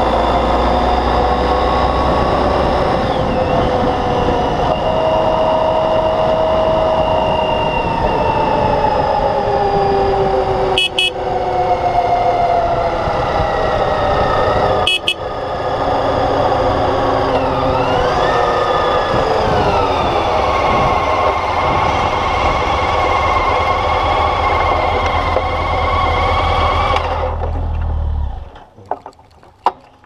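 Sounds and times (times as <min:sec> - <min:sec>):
wind and road noise: 0:00.0 - 0:30.0
motorcycle engine running: 0:01.8 - 0:28.4.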